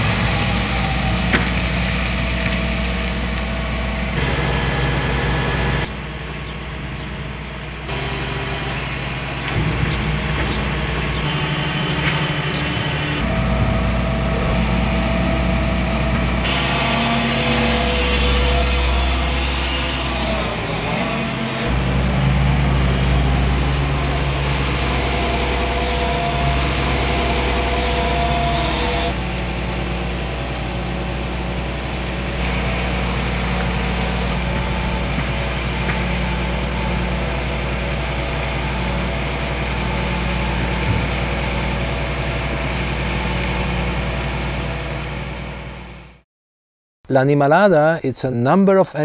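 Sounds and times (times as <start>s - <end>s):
heavy machinery engine hum: 0.0s - 46.2s
rushing mechanical noise: 0.0s - 46.2s.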